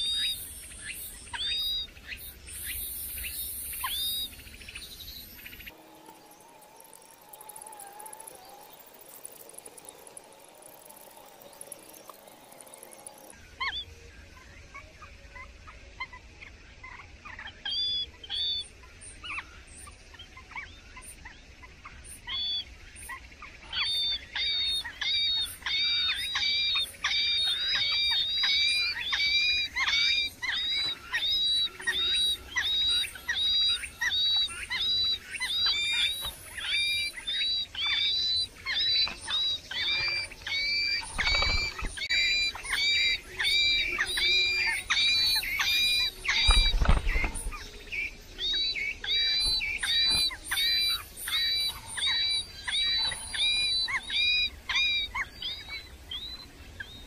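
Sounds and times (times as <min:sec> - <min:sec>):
nestling birds begging calls: 0:00.0 - 0:14.0, 0:16.9 - 0:57.0.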